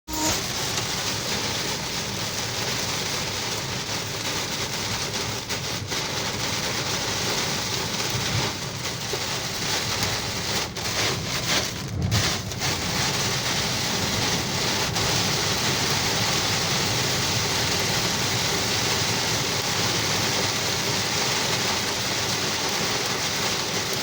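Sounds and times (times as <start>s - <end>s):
heavy rain pouring: 0.1s - 24.0s.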